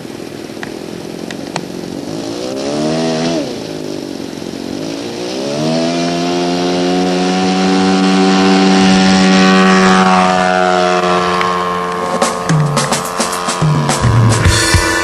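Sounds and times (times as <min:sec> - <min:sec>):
model plane engine running: 0:00.0 - 0:15.0.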